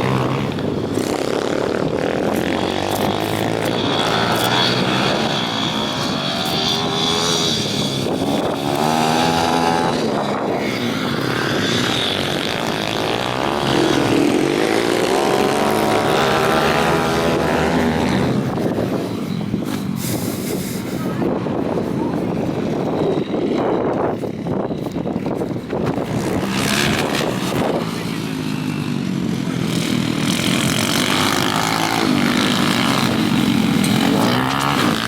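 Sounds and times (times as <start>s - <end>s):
pit bike engines revving: 0.0s - 35.0s.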